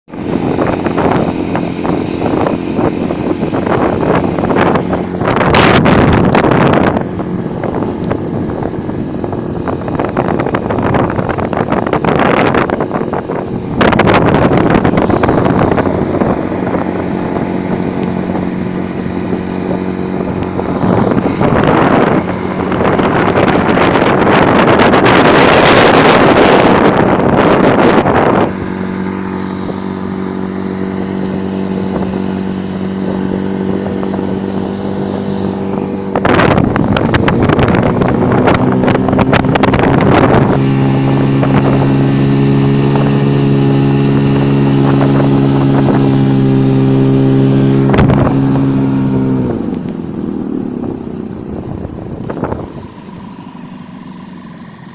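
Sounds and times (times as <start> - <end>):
wind: 0.0 - 54.9
outboard motor running: 0.1 - 54.9
water rushing: 0.1 - 54.9.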